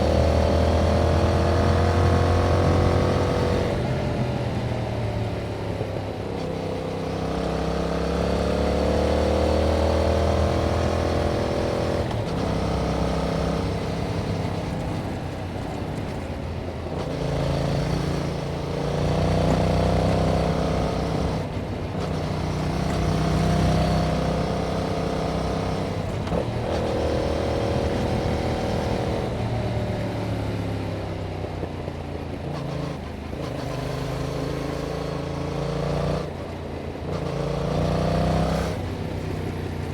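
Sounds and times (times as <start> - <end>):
motorcycle engine revving: 0.0 - 31.6, 32.4 - 39.9.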